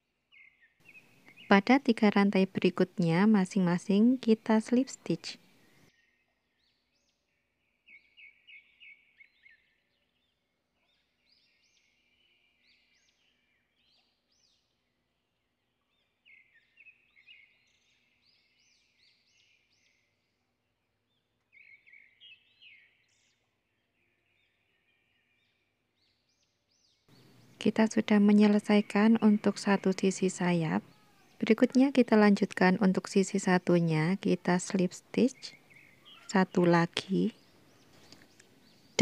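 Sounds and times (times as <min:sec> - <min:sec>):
small birds chirping and trilling: 0:00.3 - 0:20.4, 0:21.0 - 0:39.0.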